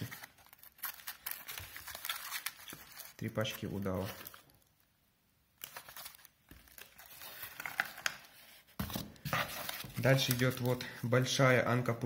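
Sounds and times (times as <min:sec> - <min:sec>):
packaging rustling and crinkling: 0:00.0 - 0:04.8, 0:05.6 - 0:11.1.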